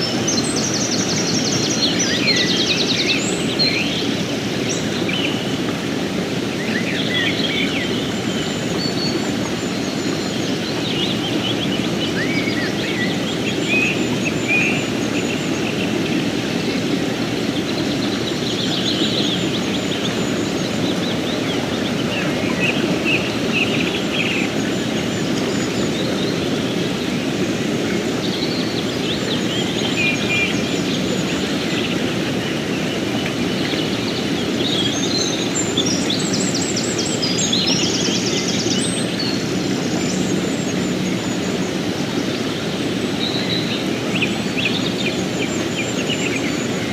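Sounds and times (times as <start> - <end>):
river water flowing: 0.0 - 46.9.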